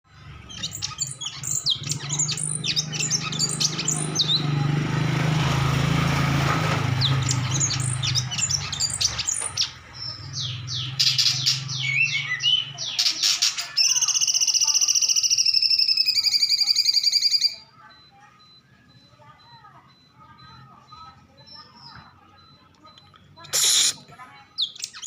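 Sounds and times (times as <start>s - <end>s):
songbird chirping and whistling: 0.1s - 4.6s, 6.9s - 19.1s, 19.9s - 22.6s, 23.5s - 25.0s.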